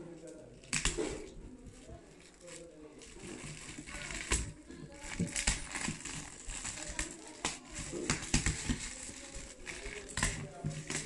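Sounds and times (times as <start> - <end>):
gift bag crinkling: 0.2 - 11.0.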